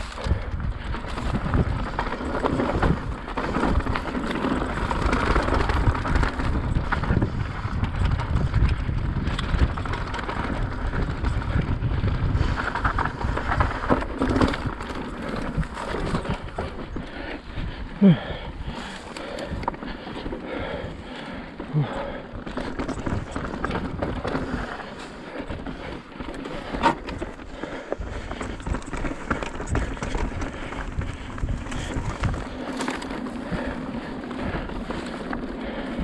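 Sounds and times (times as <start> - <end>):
bike rattling and knocking: 0.0 - 36.0
tyres rolling over dirt: 0.0 - 36.0
wind buffeting microphone: 0.0 - 36.0.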